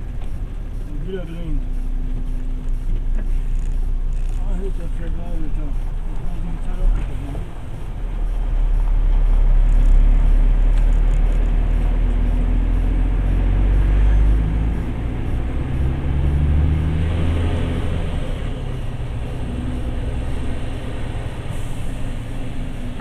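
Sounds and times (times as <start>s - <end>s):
road noise: 0.0s - 23.0s
truck diesel engine running: 0.0s - 23.0s.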